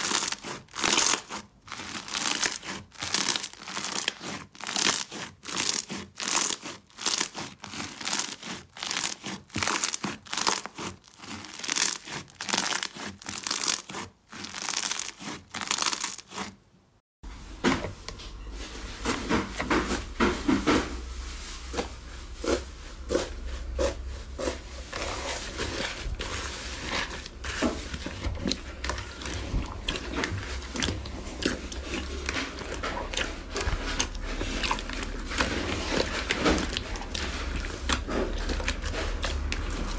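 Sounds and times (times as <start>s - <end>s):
slime squishing and crackling: 0.0s - 16.7s, 22.3s - 39.9s.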